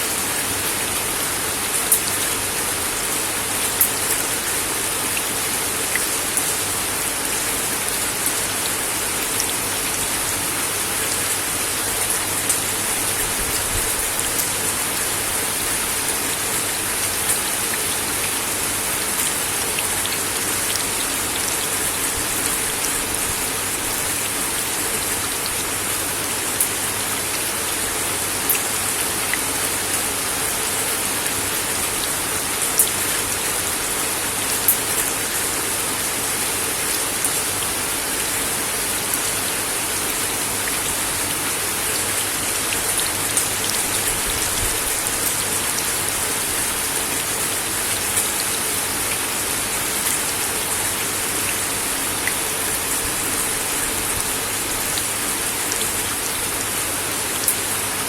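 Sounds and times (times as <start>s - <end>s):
rain on wooden deck: 0.0s - 58.0s.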